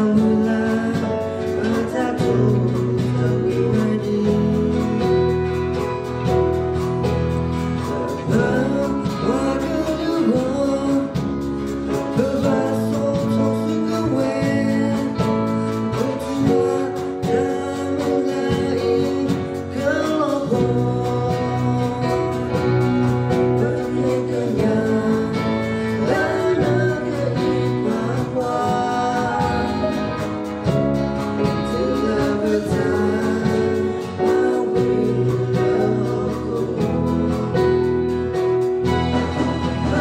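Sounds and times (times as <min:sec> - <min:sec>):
guitar and instruments accompanying: 0:00.0 - 0:40.0
person singing: 0:00.0 - 0:40.0.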